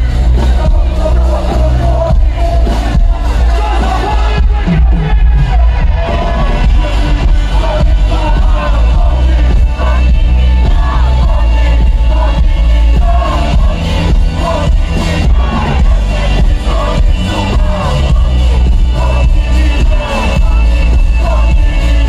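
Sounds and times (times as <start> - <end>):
crowd: 0.0 - 22.0
hip-hop concert music: 0.0 - 22.0
person singing: 0.0 - 22.0.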